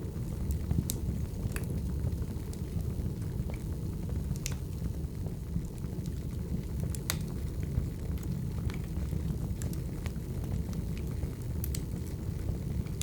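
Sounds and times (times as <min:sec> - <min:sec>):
fire low rumble: 0:00.0 - 0:13.0
logs crackling and popping: 0:00.0 - 0:13.0.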